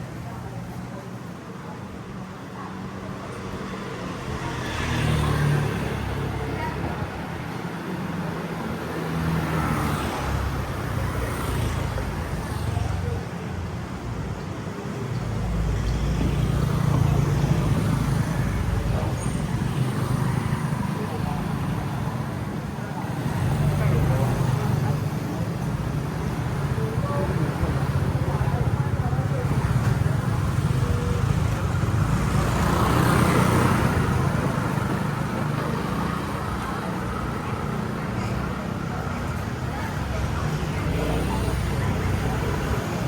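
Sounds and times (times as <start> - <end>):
street traffic noise: 0.0 - 43.0.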